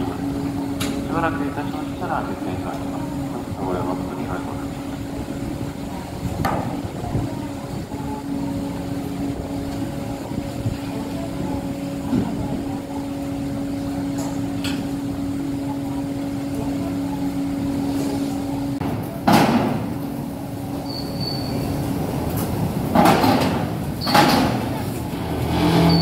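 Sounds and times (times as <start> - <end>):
ferry machinery hum: 0.0 - 26.0.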